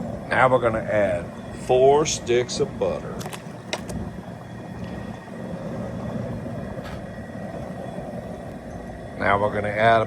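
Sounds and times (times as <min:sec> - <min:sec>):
gas burner flame rushing: 0:00.0 - 0:10.0.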